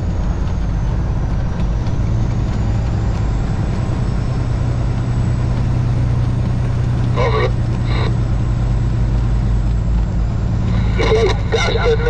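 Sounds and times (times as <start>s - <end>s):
road and cab noise: 0.0s - 12.0s
truck diesel engine hum: 0.0s - 12.0s.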